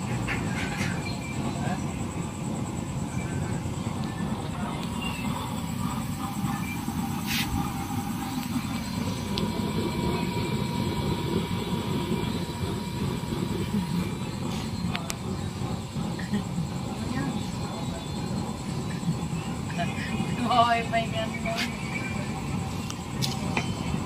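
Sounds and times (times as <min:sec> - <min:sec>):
oil burner stove rumbling: 0:00.0 - 0:24.0.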